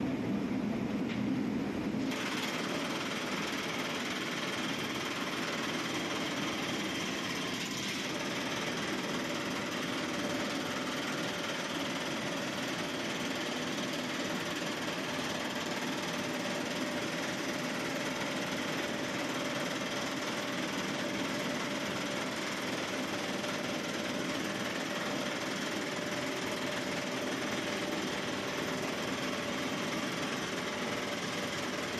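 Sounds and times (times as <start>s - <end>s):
drilling machine rattling: 2.1s - 31.9s.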